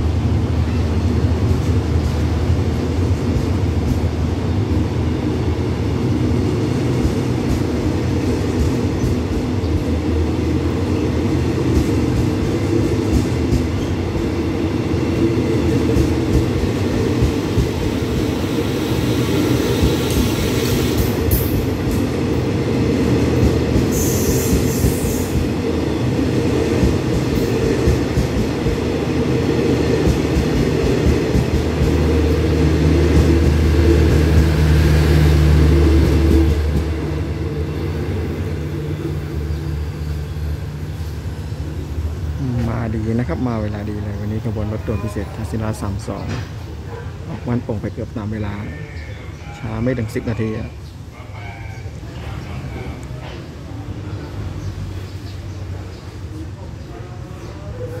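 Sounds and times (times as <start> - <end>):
train wheels rumbling on rail: 0.0 - 48.7.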